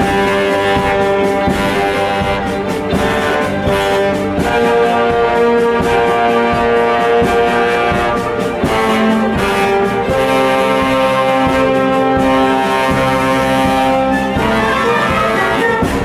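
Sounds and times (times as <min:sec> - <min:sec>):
orchestra with brass chords: 0:00.0 - 0:16.0.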